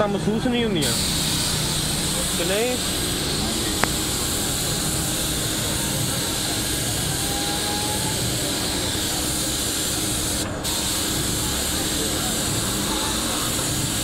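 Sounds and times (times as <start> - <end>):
paint spray gun hissing: 0.8 - 14.0.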